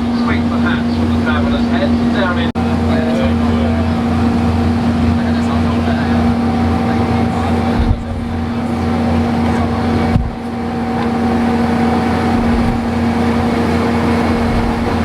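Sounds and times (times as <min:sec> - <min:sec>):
train engine drone: 0:00.0 - 0:15.0.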